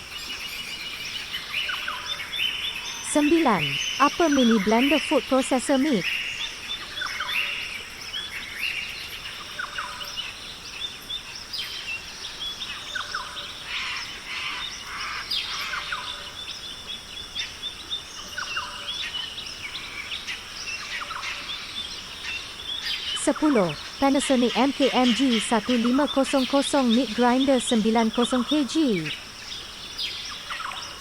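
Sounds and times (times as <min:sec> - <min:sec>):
birds chirping and calling: 0:00.0 - 0:31.0
high insect hum: 0:00.0 - 0:31.0.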